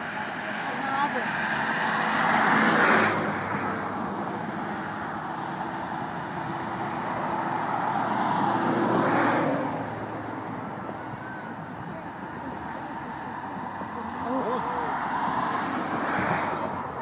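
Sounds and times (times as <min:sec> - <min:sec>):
low traffic rumble: 0:00.0 - 0:17.0
vehicle passing close by: 0:00.0 - 0:17.0.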